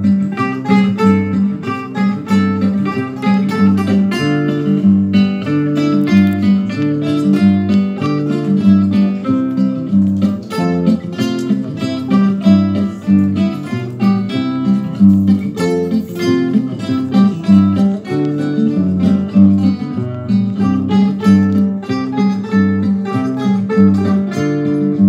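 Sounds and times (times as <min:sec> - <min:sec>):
acoustic guitars ensemble playing: 0:00.0 - 0:25.0.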